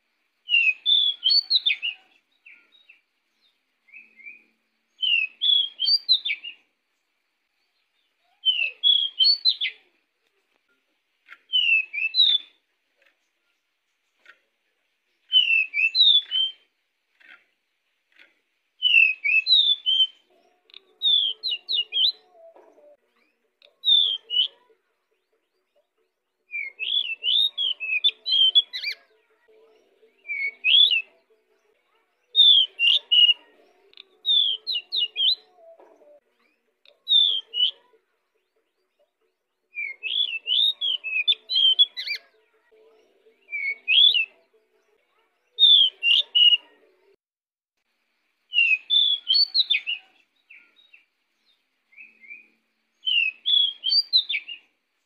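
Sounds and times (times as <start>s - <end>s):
songbird chirping whistled notes: 0.3s - 10.0s, 11.2s - 14.4s, 15.0s - 17.3s, 18.1s - 29.2s, 29.8s - 42.4s, 43.0s - 46.7s, 48.5s - 54.8s.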